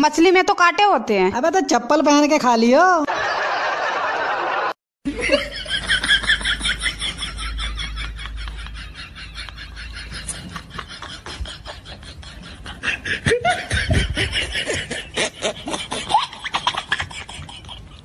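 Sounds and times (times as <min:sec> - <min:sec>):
pulsing laughter: 0:03.1 - 0:18.0.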